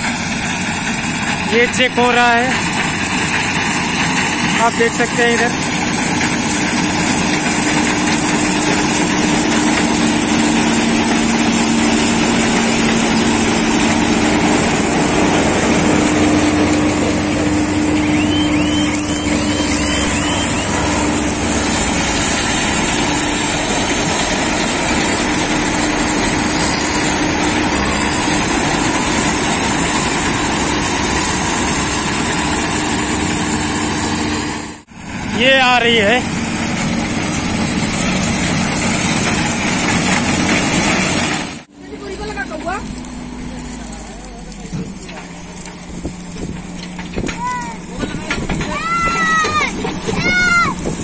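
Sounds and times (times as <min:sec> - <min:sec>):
combine harvester running: 0:00.0 - 0:51.0.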